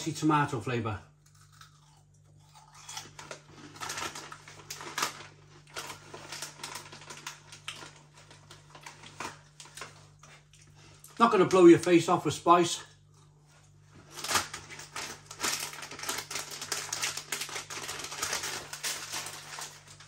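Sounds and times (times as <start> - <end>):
chewing crunchy crisps: 1.2 - 11.2, 13.0 - 20.0.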